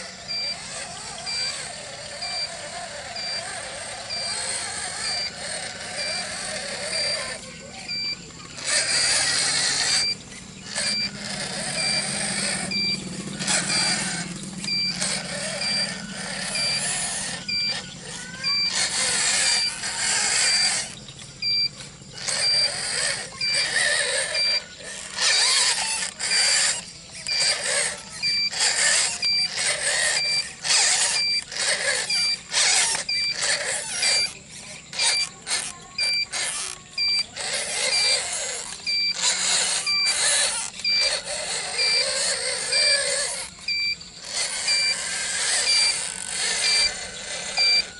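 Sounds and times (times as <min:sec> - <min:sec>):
electric motor and gears whining: 0:00.0 - 0:47.9.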